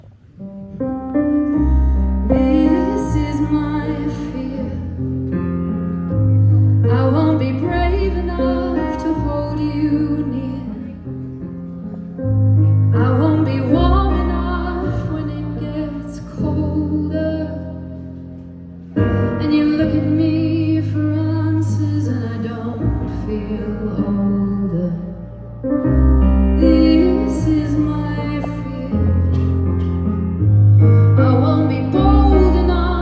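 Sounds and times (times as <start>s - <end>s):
deep bass notes: 0.0s - 33.0s.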